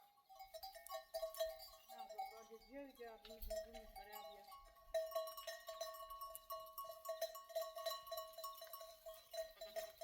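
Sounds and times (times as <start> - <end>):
sheep bells clanking: 0.0 - 10.0.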